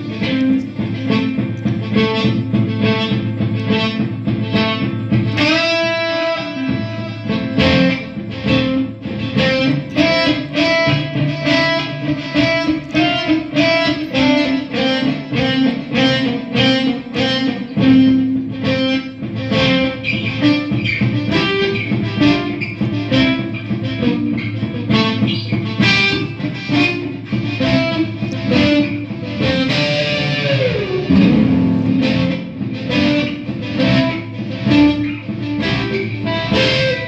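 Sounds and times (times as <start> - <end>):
overdriven electric guitar: 0.0 - 37.0.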